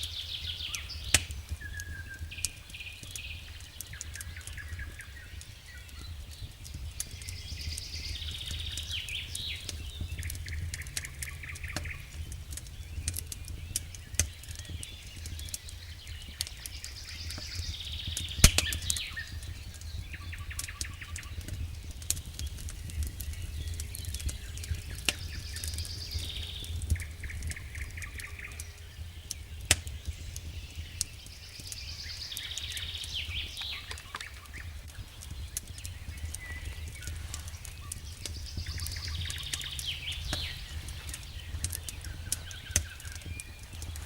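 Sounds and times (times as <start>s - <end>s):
bird chirps: 0.0s - 44.0s
fire crackling and popping: 0.0s - 44.0s
low fire rumble: 0.0s - 44.0s.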